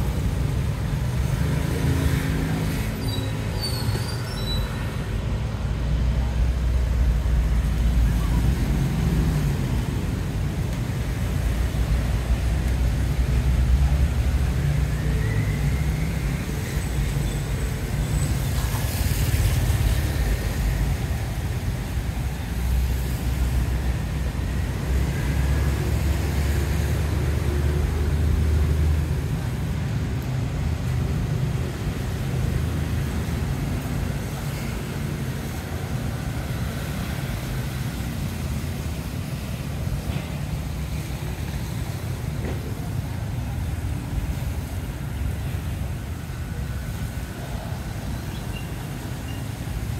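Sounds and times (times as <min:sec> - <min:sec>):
low street rumble: 0:00.0 - 0:49.9.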